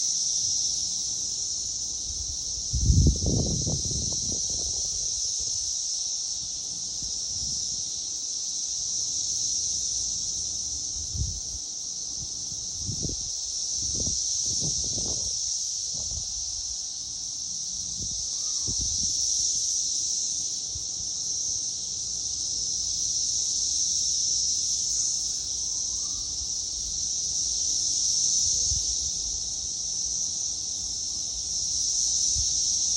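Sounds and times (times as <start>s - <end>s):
cicadas buzzing chorus: 0.0s - 32.9s.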